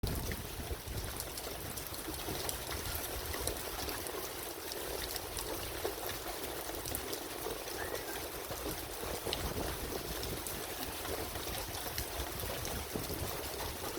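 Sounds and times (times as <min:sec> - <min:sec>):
steady rain falling: 0:00.0 - 0:13.9.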